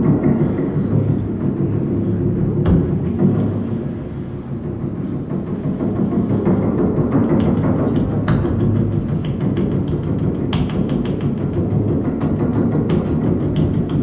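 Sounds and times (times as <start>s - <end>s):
drum feedback drone: 0.0s - 14.0s.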